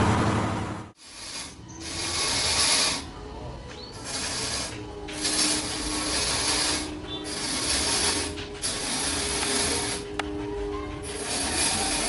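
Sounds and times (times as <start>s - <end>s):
sawmill machinery rasping: 0.9s - 12.0s.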